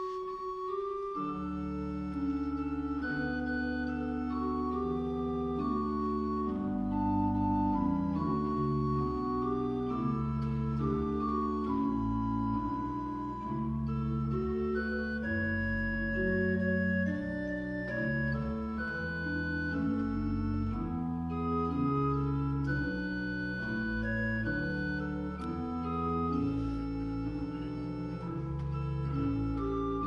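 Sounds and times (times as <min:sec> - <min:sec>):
pipe organ chords: 0:00.0 - 0:30.0.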